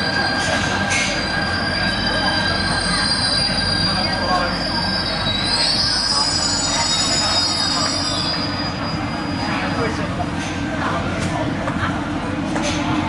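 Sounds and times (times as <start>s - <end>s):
train wheel squeal: 0.0s - 10.6s
train rumble: 0.0s - 13.0s.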